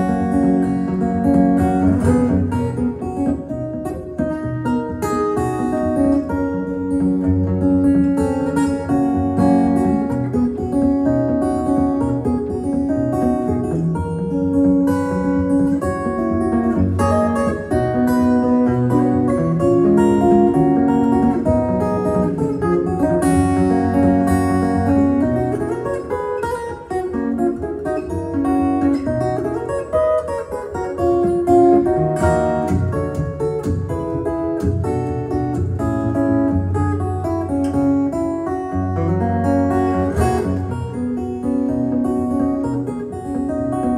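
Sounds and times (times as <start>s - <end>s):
fingerstyle acoustic guitar: 0.0s - 43.9s.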